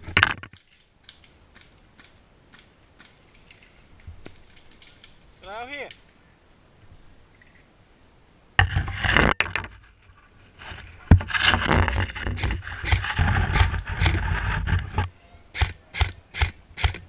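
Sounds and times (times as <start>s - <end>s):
rustling through dry bamboo: 0.0s - 6.4s, 8.6s - 17.0s.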